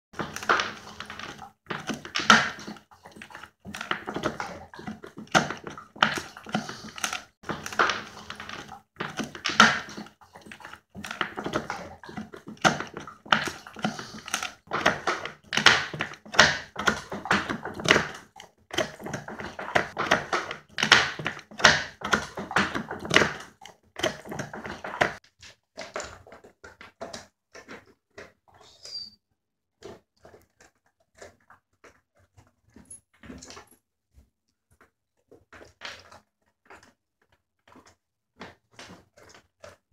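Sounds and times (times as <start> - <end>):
dog chewing and crunching: 0.2 - 28.8, 29.7 - 39.9.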